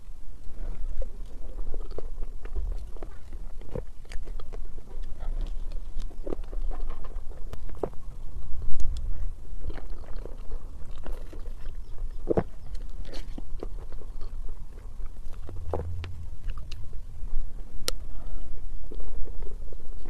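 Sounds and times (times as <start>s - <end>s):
wet chewing and mouth sounds: 0.4s - 17.2s.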